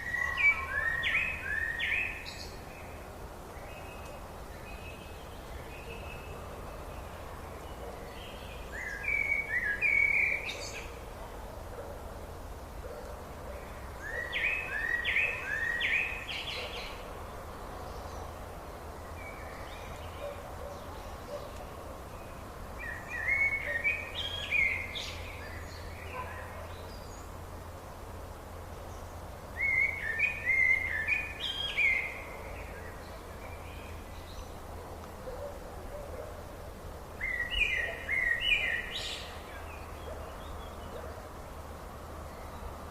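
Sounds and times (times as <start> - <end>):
background hiss and rumble: 0.0 - 42.9
songbird chirping: 0.0 - 42.9.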